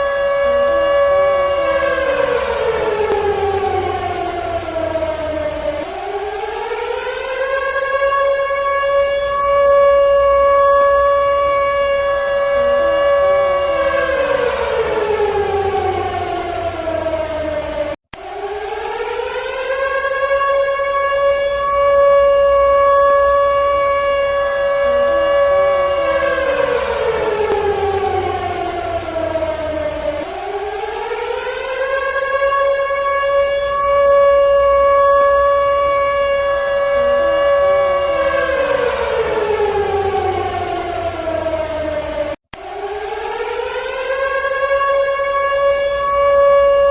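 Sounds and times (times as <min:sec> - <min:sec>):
siren wailing: 0:00.0 - 0:46.9.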